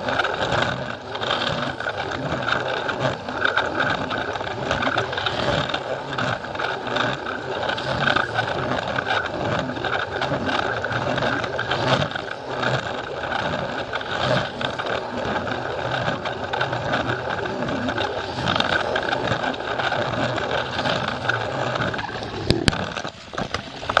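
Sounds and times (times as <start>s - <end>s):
small clicks and rattles: 0.0s - 24.0s
toy train motor whir: 0.0s - 24.0s.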